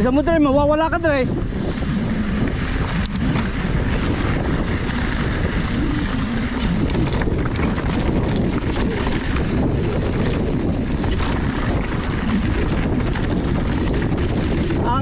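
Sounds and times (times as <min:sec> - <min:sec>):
bike clicks and rattles: 0:00.0 - 0:15.0
wind rush on microphone: 0:00.0 - 0:15.0.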